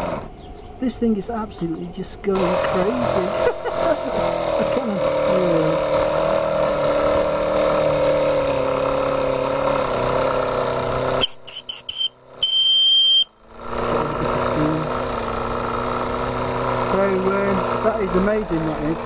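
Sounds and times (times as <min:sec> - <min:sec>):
model steam engine running: 0:02.3 - 0:12.5, 0:13.1 - 0:19.0.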